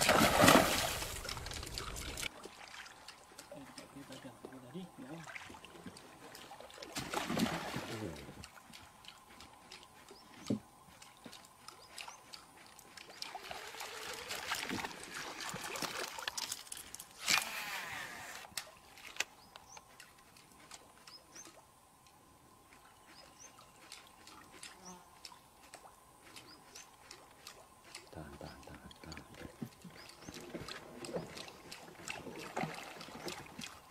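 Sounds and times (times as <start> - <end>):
water splashing and trickling: 0.0 - 17.7, 18.4 - 33.9.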